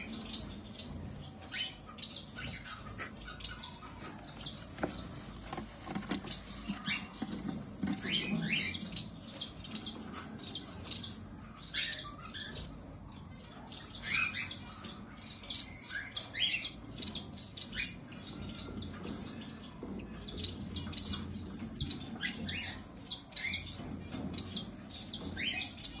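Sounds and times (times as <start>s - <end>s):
baby parrots chirping and squawking: 0.0s - 26.0s.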